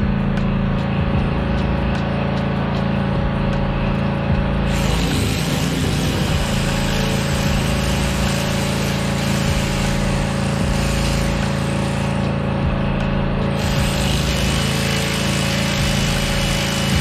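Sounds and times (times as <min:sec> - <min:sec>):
background music with low notes: 0:00.0 - 0:17.0.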